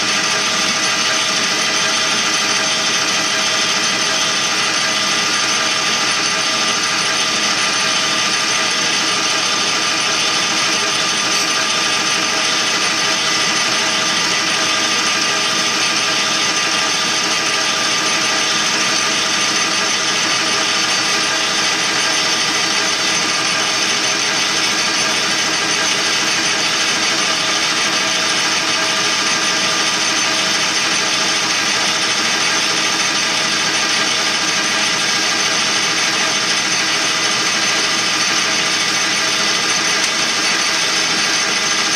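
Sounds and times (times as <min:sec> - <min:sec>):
metal lathe whine: 0:00.0 - 0:41.9
tool cutting metal: 0:00.0 - 0:41.9.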